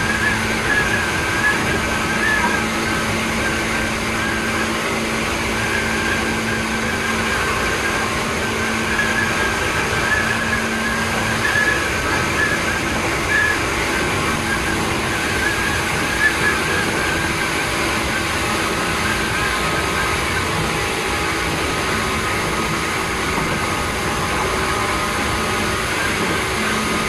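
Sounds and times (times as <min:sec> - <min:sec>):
electric train rolling: 0:00.0 - 0:27.0
faint high motor whines: 0:00.0 - 0:27.0.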